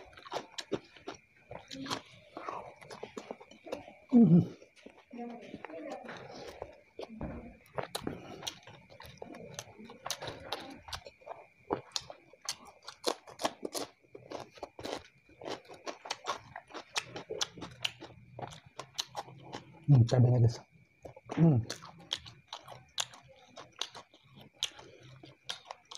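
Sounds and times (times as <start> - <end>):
crunchy chewing: 0.0 - 25.9.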